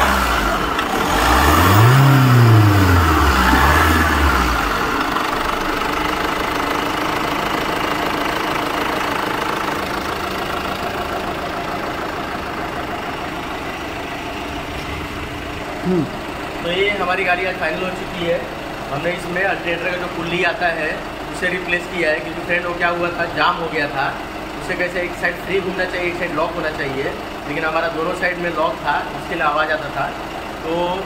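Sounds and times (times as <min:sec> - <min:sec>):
diesel engine revving and idling: 0:00.0 - 0:31.0.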